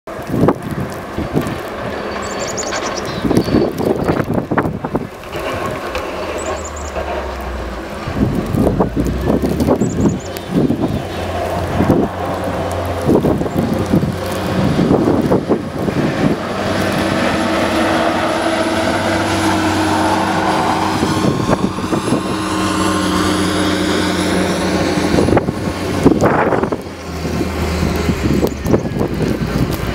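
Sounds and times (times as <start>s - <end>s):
wind buffeting microphone: 0.1s - 29.9s
diesel loader engine running: 1.1s - 29.9s.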